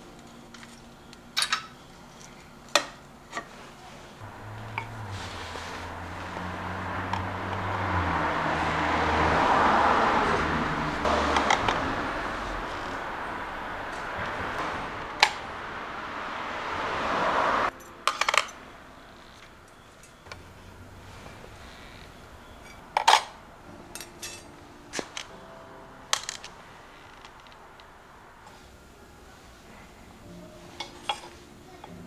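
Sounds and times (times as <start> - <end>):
swelling background noise: 0.0 - 32.0.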